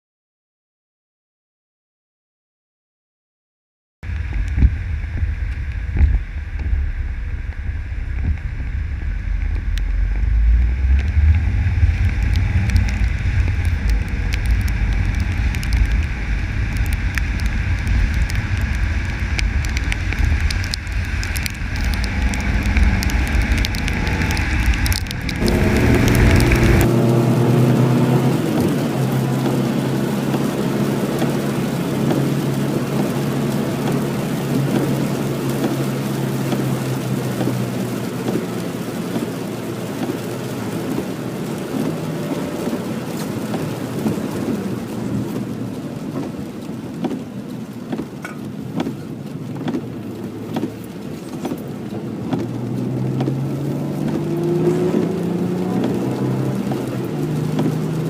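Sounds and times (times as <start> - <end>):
rain: 4.0 - 58.0
car engine: 4.1 - 58.0
wet road hiss: 4.1 - 58.0.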